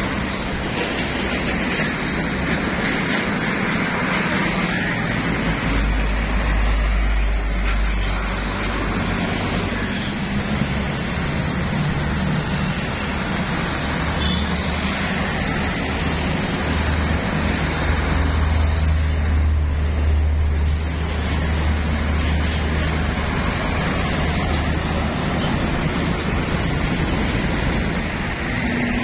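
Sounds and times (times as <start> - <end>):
heavy truck engine rumble: 0.0 - 29.0
highway traffic passing: 0.0 - 29.0.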